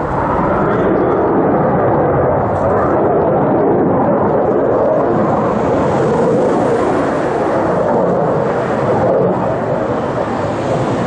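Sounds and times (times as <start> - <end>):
fighter jet flying overhead: 0.0 - 11.0.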